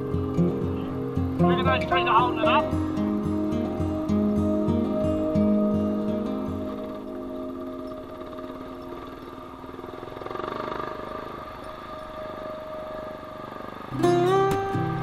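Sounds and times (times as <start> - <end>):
background music: 0.0 - 15.0
motorcycle engine running: 0.0 - 15.0.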